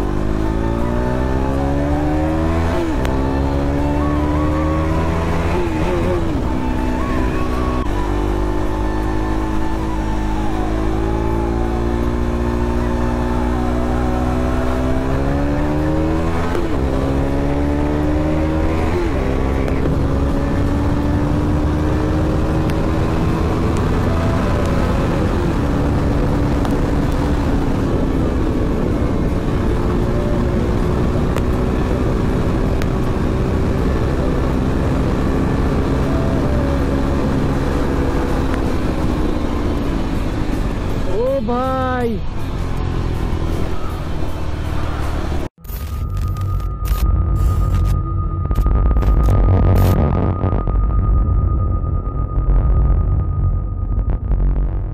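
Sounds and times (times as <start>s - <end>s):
motorcycle engine accelerating: 0.0s - 51.4s.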